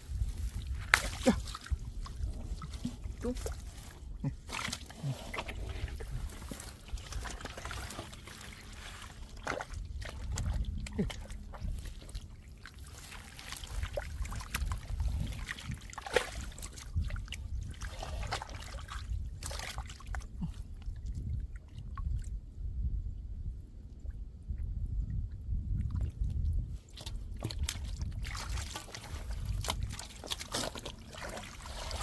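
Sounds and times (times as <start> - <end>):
splashing in muddy water: 0.0 - 22.3, 25.7 - 32.0.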